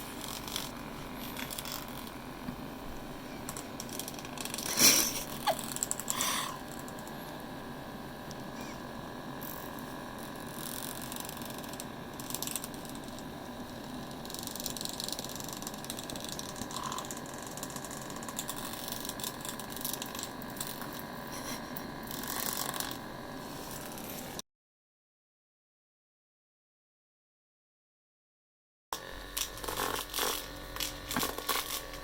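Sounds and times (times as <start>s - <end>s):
electric massage machine buzzing: 0.0s - 24.4s, 29.0s - 32.0s.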